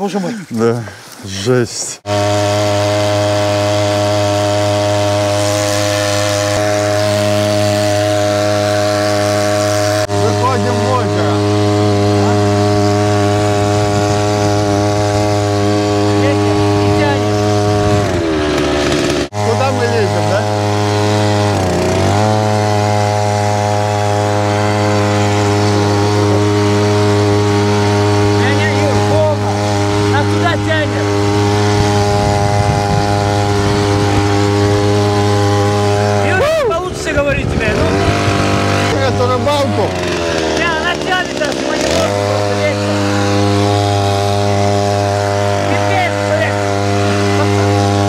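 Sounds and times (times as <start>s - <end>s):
two-stroke outboard motor running: 0.0s - 48.0s.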